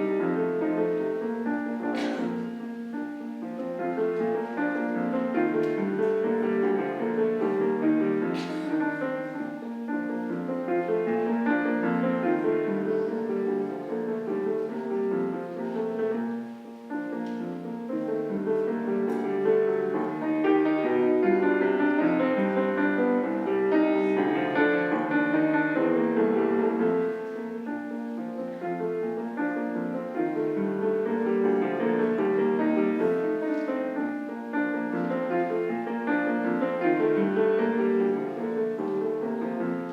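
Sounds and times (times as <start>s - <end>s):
solo piano piece: 0.0s - 39.9s.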